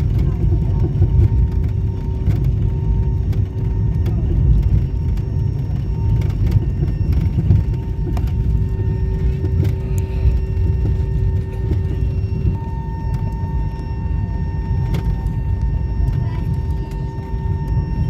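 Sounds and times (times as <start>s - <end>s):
airliner cabin rumble: 0.0s - 18.0s
constant hum: 0.0s - 18.0s.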